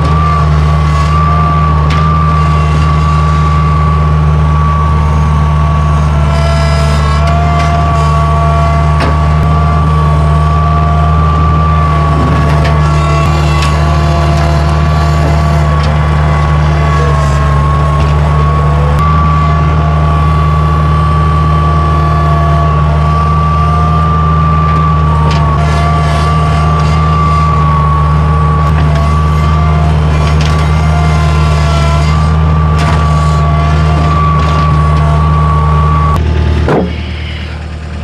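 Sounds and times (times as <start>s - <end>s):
high whine: 0.0s - 38.0s
skid steer engine running: 0.0s - 38.0s.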